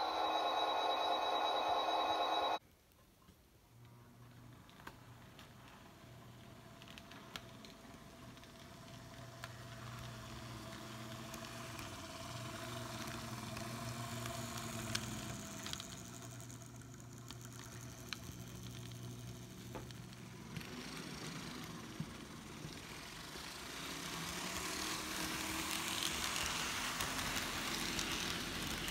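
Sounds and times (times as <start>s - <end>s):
wheels clicking on rails: 4.4s - 28.9s
model train motor hum: 4.7s - 28.9s.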